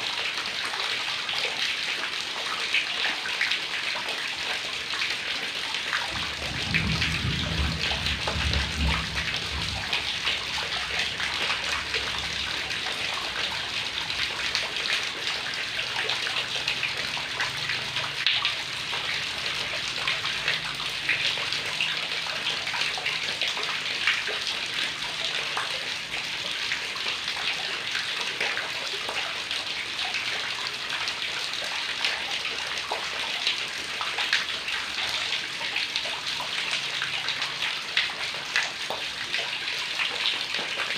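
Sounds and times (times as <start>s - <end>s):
heavy rain falling: 2.5s - 40.9s.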